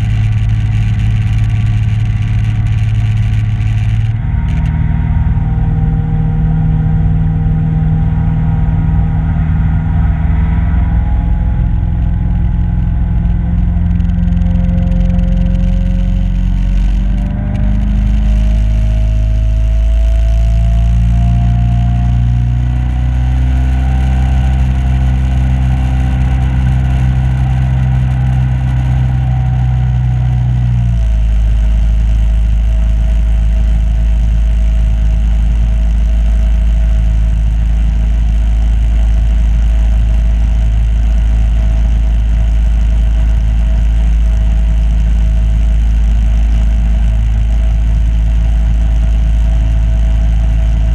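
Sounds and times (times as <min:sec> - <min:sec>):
small boat motor running: 0:00.0 - 0:50.9.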